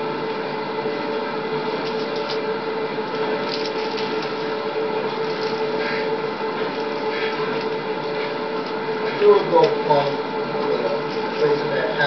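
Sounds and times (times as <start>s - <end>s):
hum and hiss: 0.0s - 12.0s.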